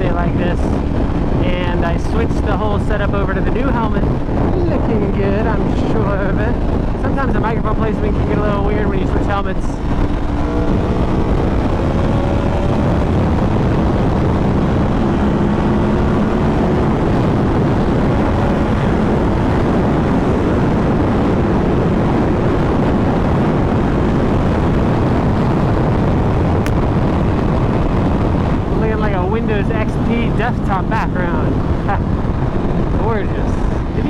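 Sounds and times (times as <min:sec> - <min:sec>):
motorcycle engine humming: 0:00.0 - 0:34.0
wind rushing over microphone: 0:00.0 - 0:34.0.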